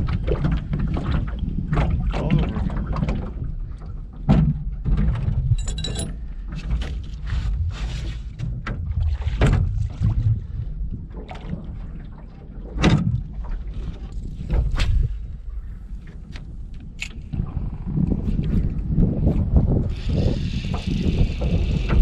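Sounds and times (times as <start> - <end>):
knocks and clunks in rowboat: 0.0 - 22.0
wind rumble on microphone: 0.0 - 22.0.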